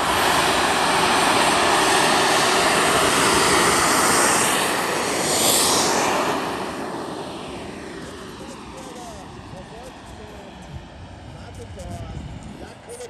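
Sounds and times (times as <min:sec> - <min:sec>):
jet engines whining: 0:00.0 - 0:13.0
passing jet hiss: 0:00.0 - 0:13.0.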